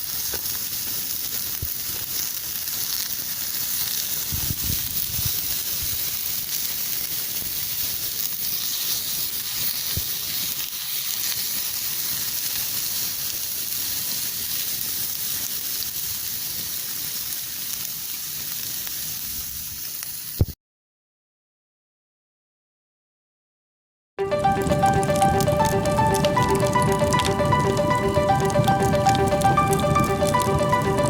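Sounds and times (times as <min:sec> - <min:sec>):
meat sizzling on a griddle: 0:00.0 - 0:20.6, 0:24.3 - 0:31.0.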